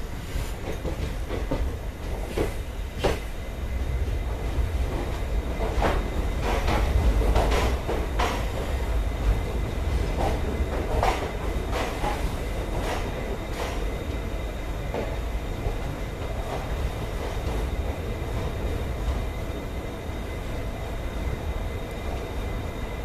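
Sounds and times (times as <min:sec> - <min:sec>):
train coaches rumbling: 0:00.0 - 0:23.0.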